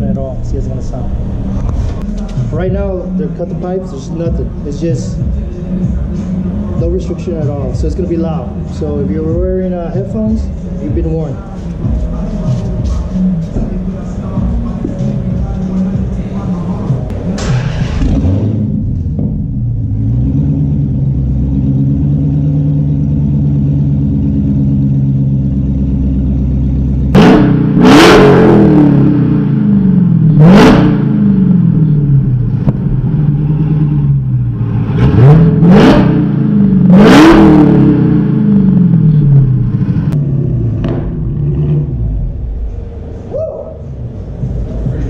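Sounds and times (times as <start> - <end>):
loud car engine idling and revving: 0.0 - 45.0.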